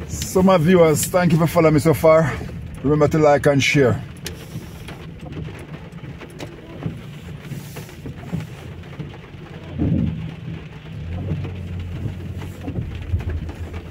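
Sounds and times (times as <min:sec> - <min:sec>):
heavy rain falling: 0:00.0 - 0:13.9
low rumble: 0:00.0 - 0:13.9.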